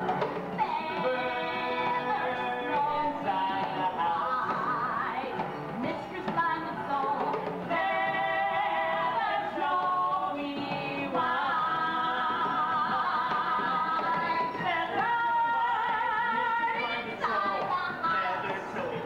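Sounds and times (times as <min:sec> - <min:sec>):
person singing with vibrato: 0:00.5 - 0:18.5.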